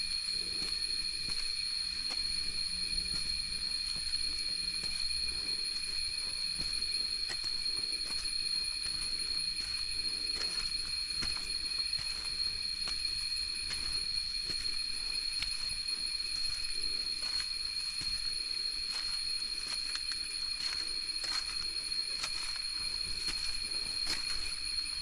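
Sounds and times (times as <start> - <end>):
insect chorus drone: 0.0 - 25.0.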